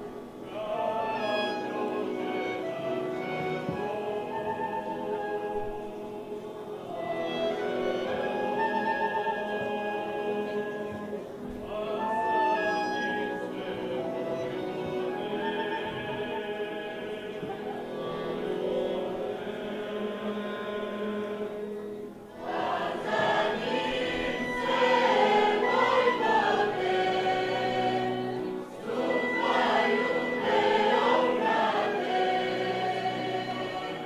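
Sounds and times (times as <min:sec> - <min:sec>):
held instrumental notes: 0:00.0 - 0:34.0
group of voices singing: 0:00.4 - 0:34.0.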